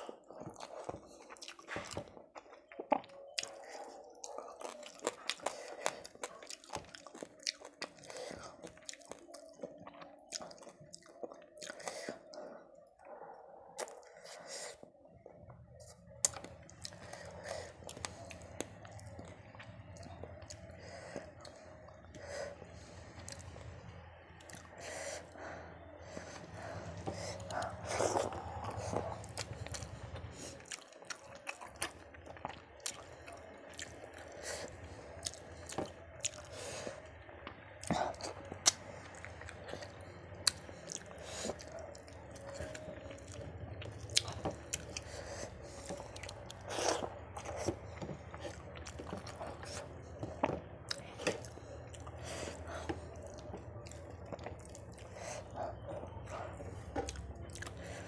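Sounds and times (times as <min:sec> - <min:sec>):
chewing and wet mouth smacks: 0:00.0 - 0:12.6, 0:13.7 - 0:58.0.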